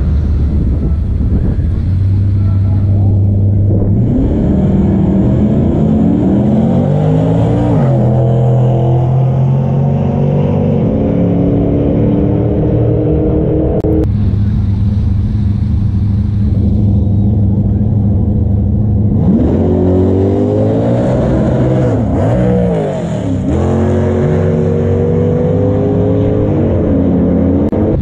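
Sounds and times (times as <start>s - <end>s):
low rumble of engines: 0.0s - 28.0s
muscle car accelerating: 0.0s - 28.0s.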